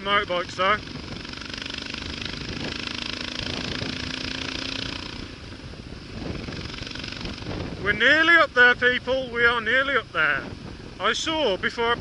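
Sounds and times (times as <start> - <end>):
motorcycle engine running: 0.0 - 12.0
wind and road rush: 0.0 - 12.0.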